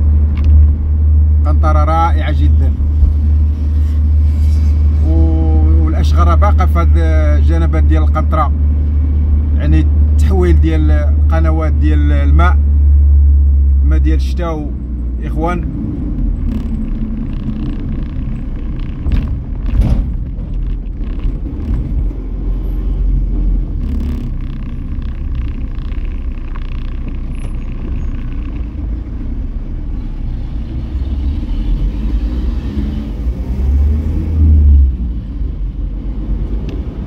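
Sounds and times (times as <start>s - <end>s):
car engine and tyre noise: 0.0s - 37.0s.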